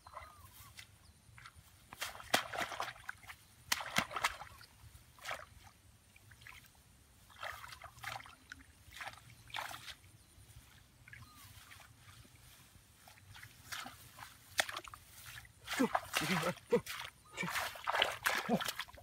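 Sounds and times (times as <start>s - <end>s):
water splashing in flooded grass: 0.1s - 10.1s, 11.0s - 19.0s.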